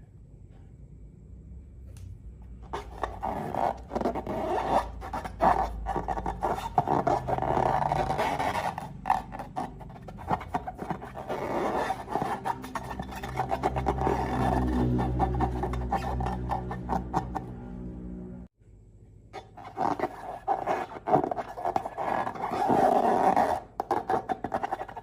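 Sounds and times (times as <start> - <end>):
slime being mixed: 2.6 - 17.5, 19.4 - 25.0.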